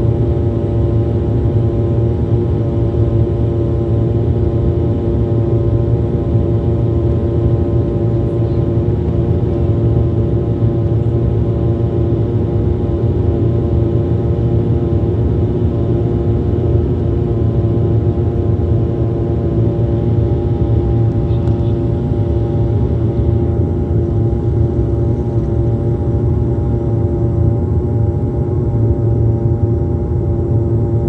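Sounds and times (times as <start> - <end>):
airliner engines droning in cabin: 0.0 - 31.0.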